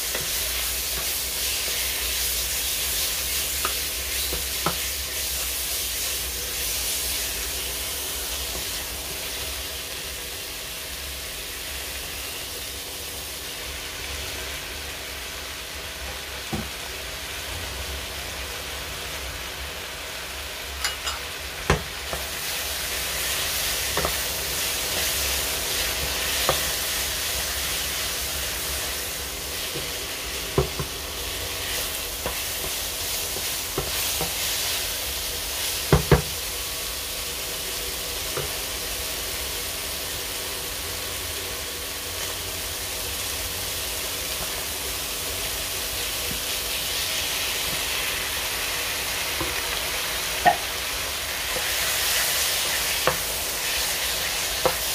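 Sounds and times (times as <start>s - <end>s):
food sizzling in a wok: 0.0s - 54.9s.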